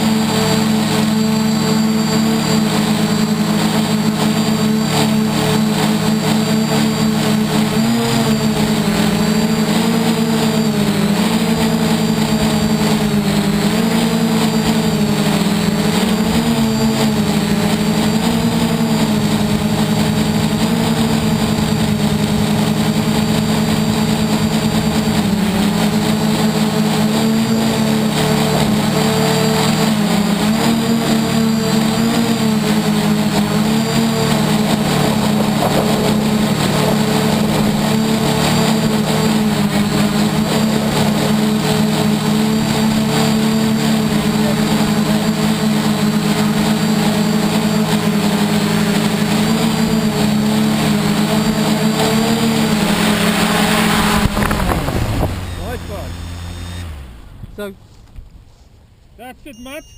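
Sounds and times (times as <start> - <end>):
drone propellers buzzing: 0.0 - 58.3.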